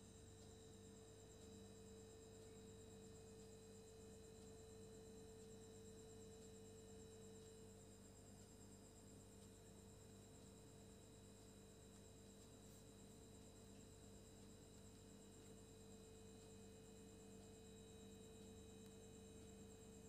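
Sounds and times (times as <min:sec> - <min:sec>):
faint electronic hum: 0:00.0 - 0:20.0.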